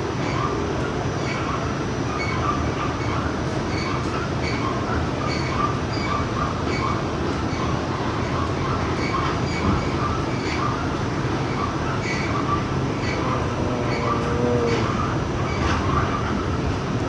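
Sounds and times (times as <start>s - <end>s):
subway train rumble and rattle: 0.0s - 17.0s.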